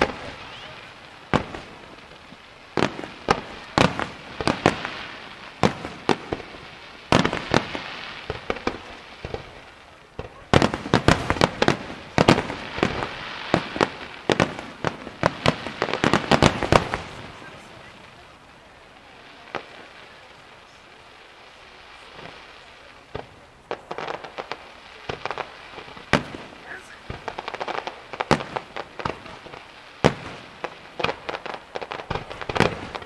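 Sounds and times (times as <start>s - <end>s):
fireworks bursting with bangs: 0.0s - 33.0s
fireworks hiss and crackle: 0.0s - 33.0s.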